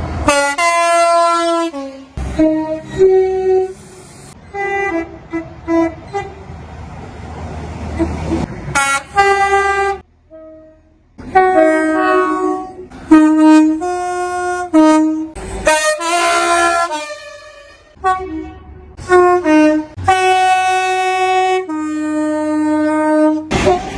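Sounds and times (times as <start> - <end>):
running train rumble: 0.0 - 23.9
train horn blasts: 0.2 - 6.5, 8.0 - 23.9.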